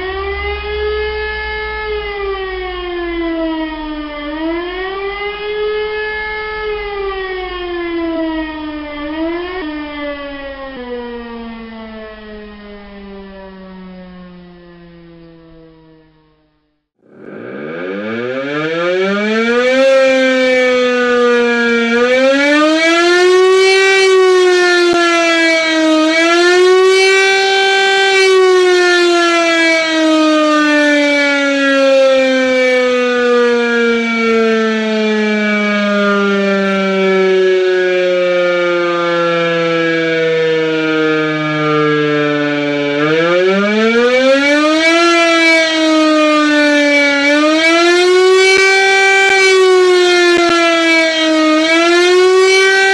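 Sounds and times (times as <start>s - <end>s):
civil defence siren wailing: 0.0s - 52.9s.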